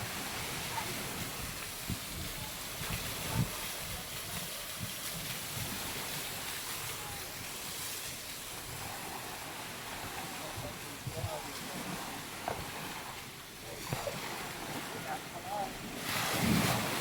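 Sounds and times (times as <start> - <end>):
wind buffeting microphone: 0.0 - 7.6, 8.5 - 17.0
sea surf washing: 0.0 - 17.0.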